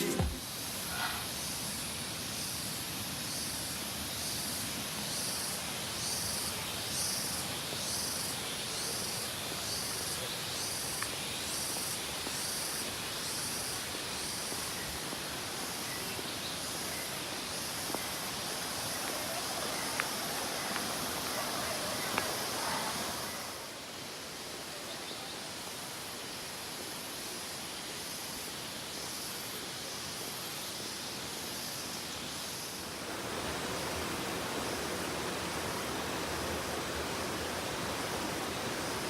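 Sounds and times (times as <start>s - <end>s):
steady outdoor hiss: 0.0s - 39.0s.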